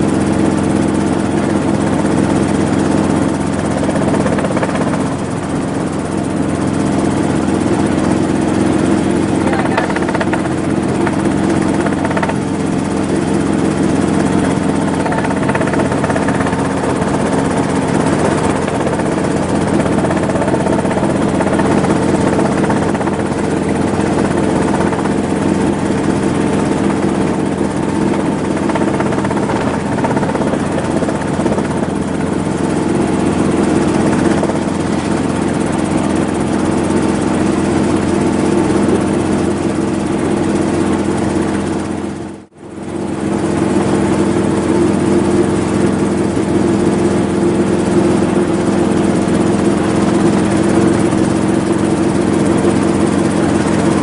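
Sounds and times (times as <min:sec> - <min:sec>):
helicopter engine drone: 0:00.0 - 0:54.0
rotor flutter: 0:00.0 - 0:54.0.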